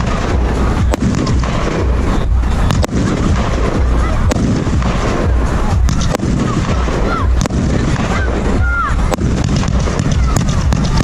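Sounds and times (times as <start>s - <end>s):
fireworks firing barrage: 0.0s - 11.0s.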